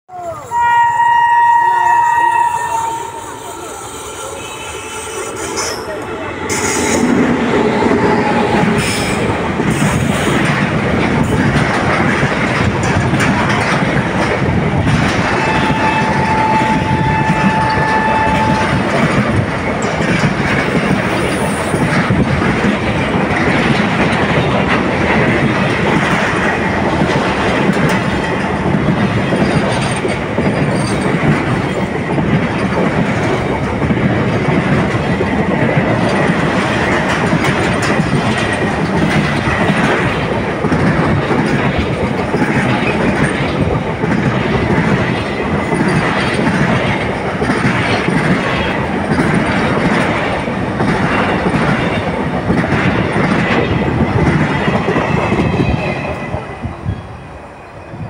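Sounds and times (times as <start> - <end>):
steel wheels rumbling on rail: 0.1 - 58.0
wheels clicking over rail joints: 7.9 - 56.2.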